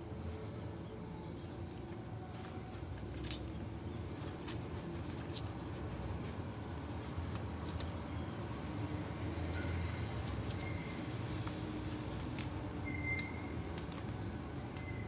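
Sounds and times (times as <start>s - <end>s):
leather gloves rustling: 1.7s - 15.0s.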